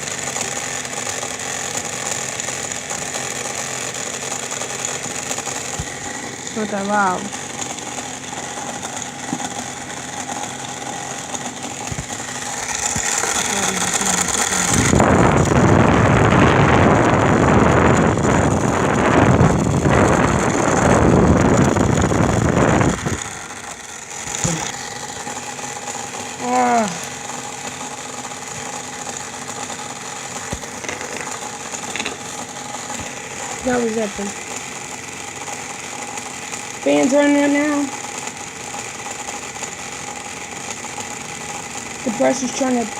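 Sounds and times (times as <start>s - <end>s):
air conditioner humming: 0.0s - 42.9s.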